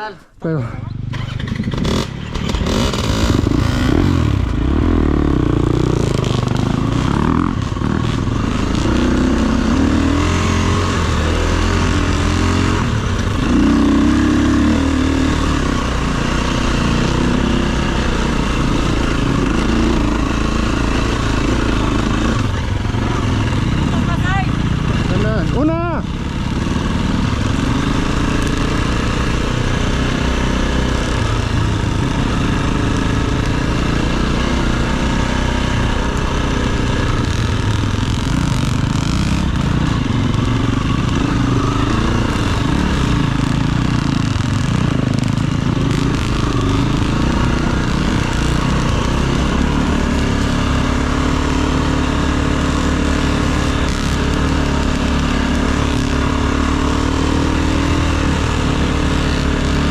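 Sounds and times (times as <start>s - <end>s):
dirt bike engine revving: 0.9s - 59.9s.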